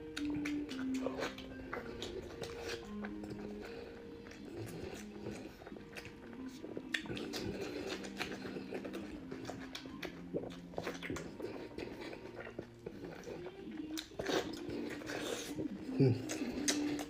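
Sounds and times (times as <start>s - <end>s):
lip smacks and slurps: 0.0s - 17.0s
man chewing wetly: 0.0s - 17.0s.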